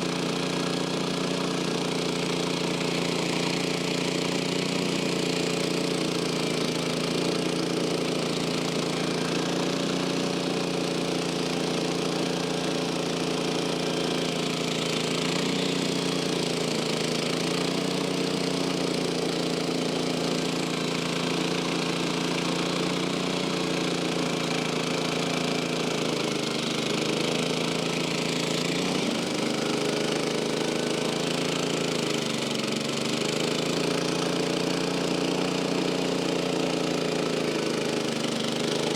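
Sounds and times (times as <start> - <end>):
band sawmill engine sawing log: 0.1 - 38.9.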